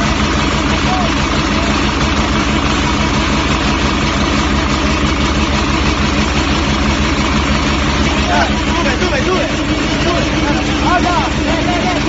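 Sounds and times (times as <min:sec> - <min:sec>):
concrete pump engine running: 0:00.0 - 0:12.0.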